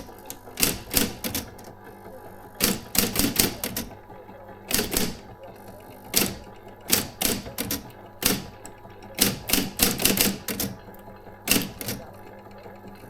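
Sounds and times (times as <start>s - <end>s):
electric typewriter key strikes: 0.0s - 13.0s.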